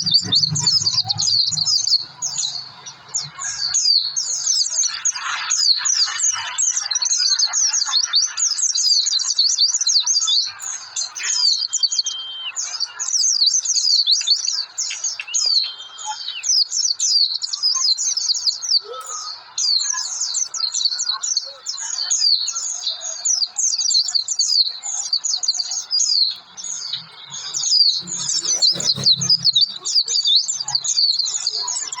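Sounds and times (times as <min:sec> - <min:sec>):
bird twittering: 0:00.0 - 0:32.0
bird whistled tones: 0:00.0 - 0:32.0.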